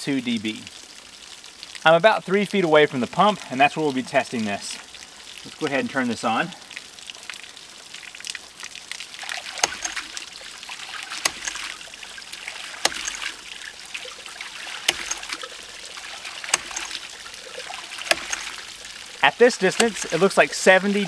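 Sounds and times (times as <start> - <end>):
water splashing: 0.0 - 21.0.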